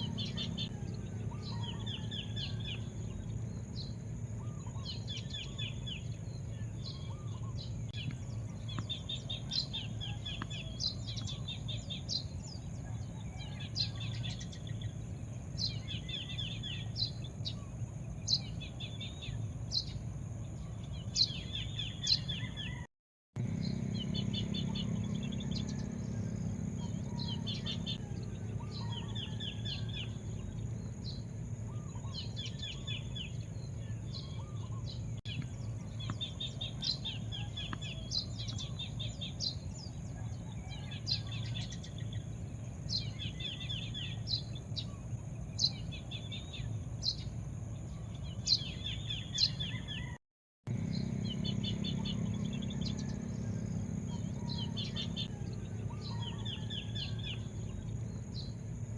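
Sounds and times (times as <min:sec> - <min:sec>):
low background rumble: 0:00.0 - 0:50.0, 0:50.7 - 0:58.9
birds chirping trills: 0:00.0 - 0:58.9.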